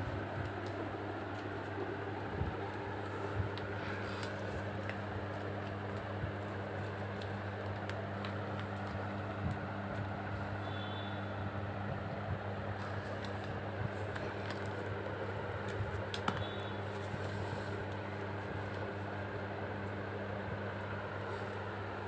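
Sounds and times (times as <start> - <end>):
mechanical hum with hiss: 0.0 - 22.0.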